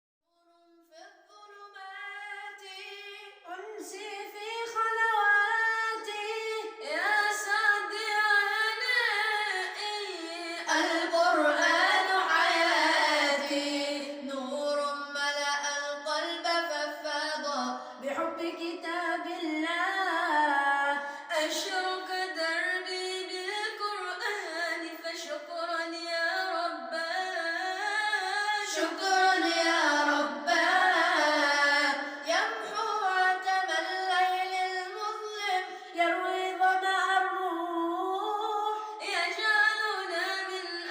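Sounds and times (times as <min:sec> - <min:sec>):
a cappella group singing: 0:01.7 - 0:40.9.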